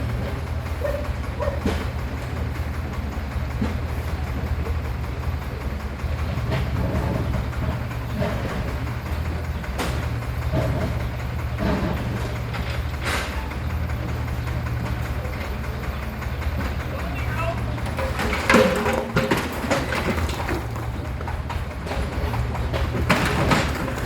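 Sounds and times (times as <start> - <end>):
single-cylinder diesel engine running: 0.0 - 24.0.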